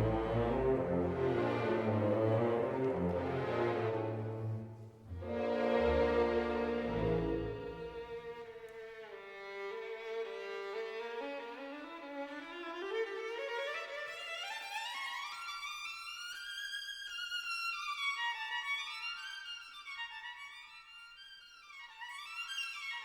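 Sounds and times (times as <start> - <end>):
violin melody: 0.0 - 23.0.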